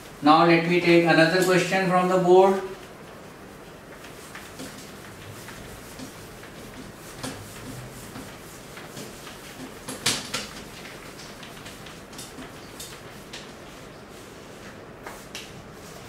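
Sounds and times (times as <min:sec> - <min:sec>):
eraser wiping whiteboard: 0:00.0 - 0:16.0.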